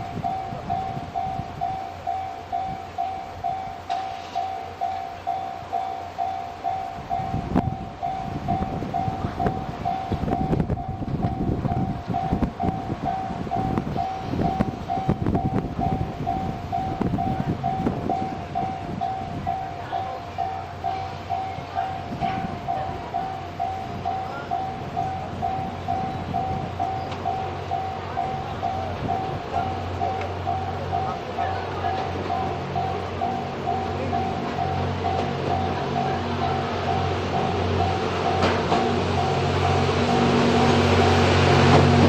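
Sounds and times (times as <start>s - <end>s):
level-crossing warning bell: 0.0s - 42.0s
train rumbling past: 0.0s - 42.0s
wheels clattering on track: 2.1s - 5.3s, 6.3s - 42.0s.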